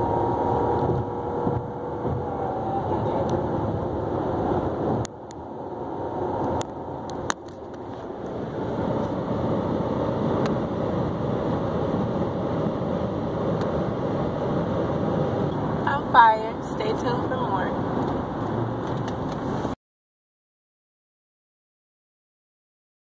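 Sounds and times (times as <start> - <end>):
road and wind noise in car: 0.0 - 19.8.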